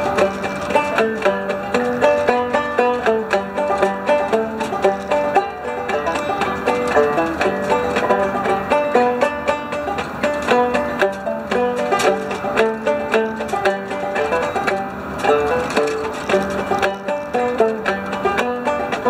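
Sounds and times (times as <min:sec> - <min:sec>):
banjo picking: 0:00.0 - 0:19.0.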